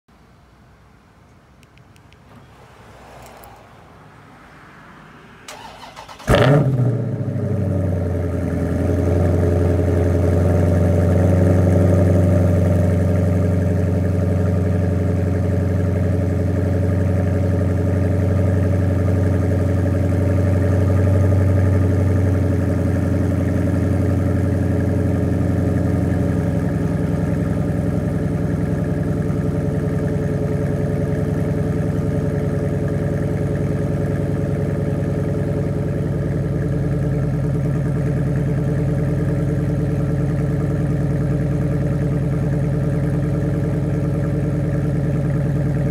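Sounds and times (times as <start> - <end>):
car engine idling deep rumble: 0.2 - 45.9.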